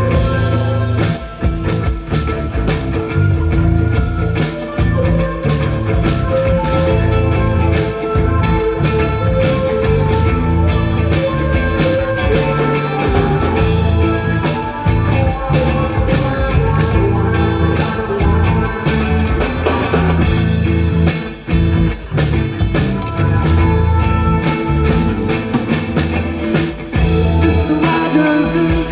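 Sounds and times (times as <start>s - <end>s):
bass guitar: 0.0s - 28.9s
drum kit steady beat: 0.0s - 28.9s
electric guitar: 0.0s - 28.9s.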